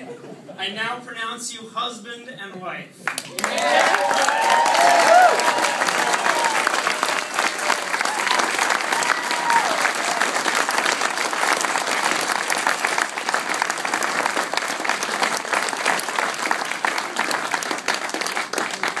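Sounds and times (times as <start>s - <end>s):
audience applauding: 3.1s - 19.0s.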